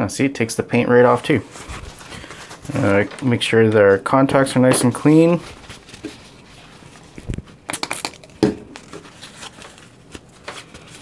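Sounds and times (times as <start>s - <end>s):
cloth rustling and rubbing: 0.9s - 7.7s, 8.7s - 11.0s.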